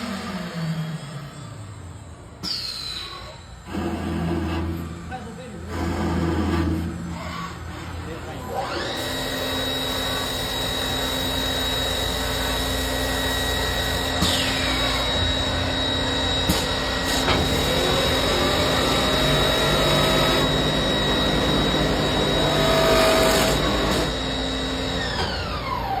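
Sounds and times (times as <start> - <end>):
wood router spindle whining: 3.7 - 26.0.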